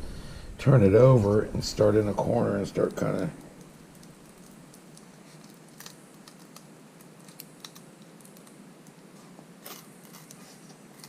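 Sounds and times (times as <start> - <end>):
faint clicks and crackles: 1.2 - 11.0.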